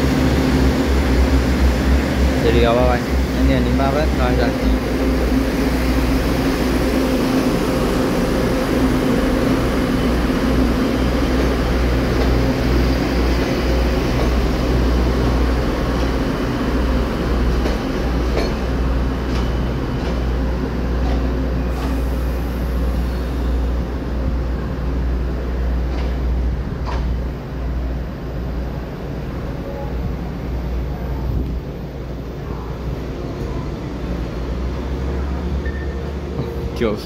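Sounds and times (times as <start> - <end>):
train engine drone: 0.0 - 37.0.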